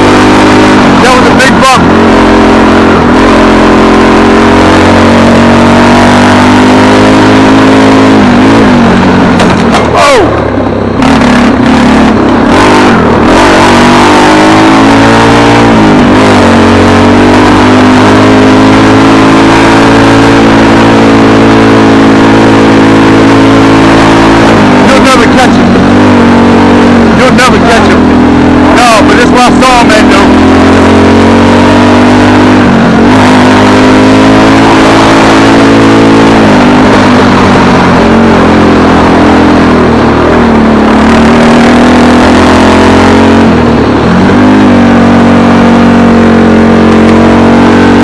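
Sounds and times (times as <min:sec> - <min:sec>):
car engine running: 0:00.0 - 0:48.0.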